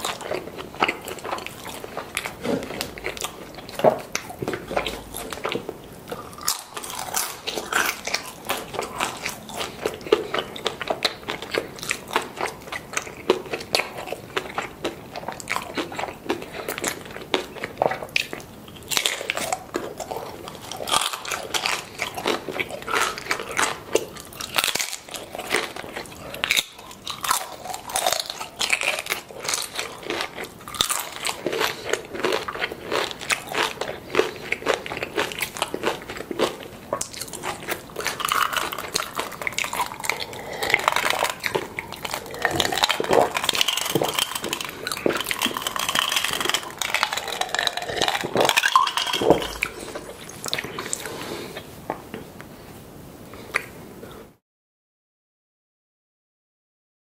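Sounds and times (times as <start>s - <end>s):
person crunching tortilla chips: 0.0s - 51.7s.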